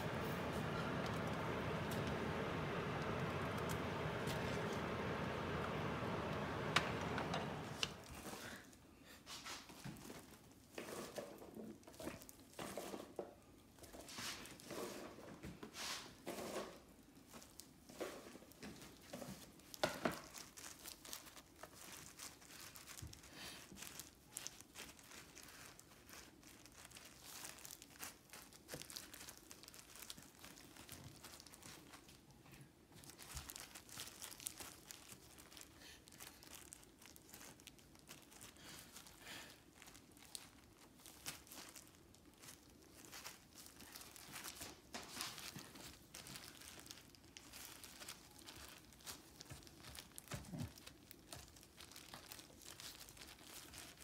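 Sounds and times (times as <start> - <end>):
plastic glove crinkling: 0.0 - 8.8, 16.8 - 54.0
paper towels rustling: 0.0 - 11.3, 14.0 - 32.3, 32.9 - 54.0.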